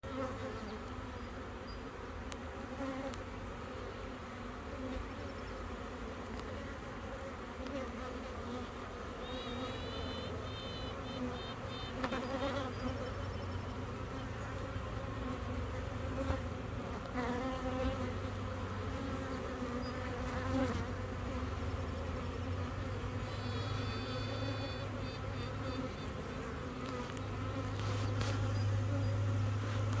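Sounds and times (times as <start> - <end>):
bee colony humming: 0.0 - 30.0
queen bee piping: 0.0 - 30.0.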